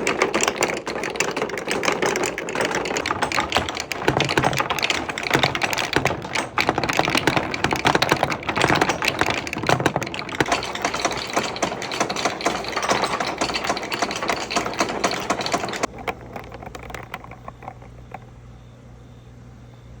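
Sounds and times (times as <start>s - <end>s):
balls rolling down wooden marble run: 0.0s - 18.4s.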